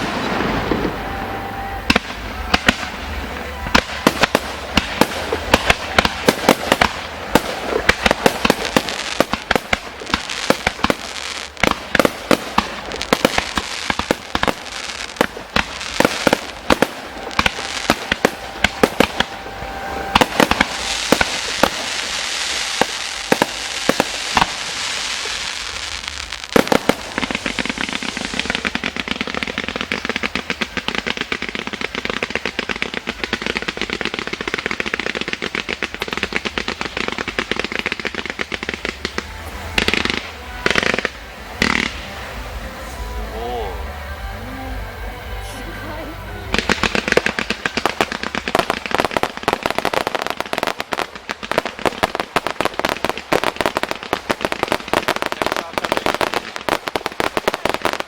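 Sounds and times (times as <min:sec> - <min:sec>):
fireworks crackling: 0:00.0 - 0:58.0.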